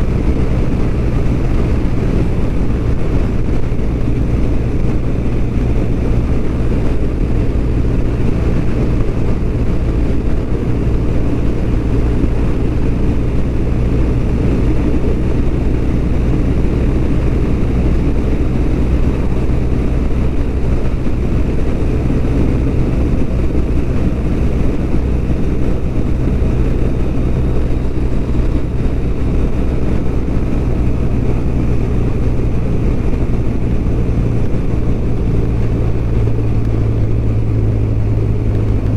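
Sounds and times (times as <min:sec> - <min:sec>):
motorcycle engine cruising: 0:00.0 - 0:38.9
road noise: 0:00.0 - 0:38.9
wind noise: 0:00.0 - 0:38.9.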